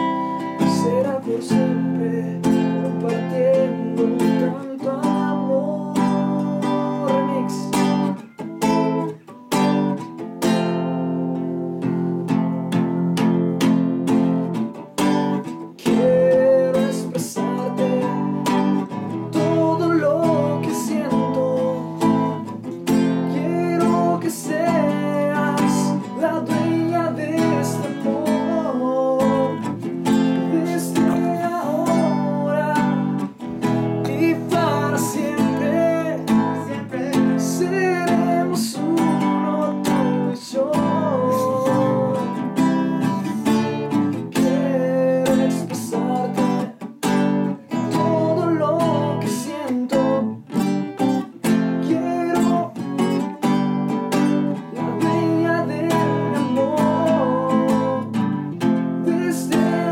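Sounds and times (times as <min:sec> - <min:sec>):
man singing love song: 0:00.0 - 0:09.2, 0:13.6 - 0:59.9
classical guitar strumming: 0:00.0 - 0:59.9.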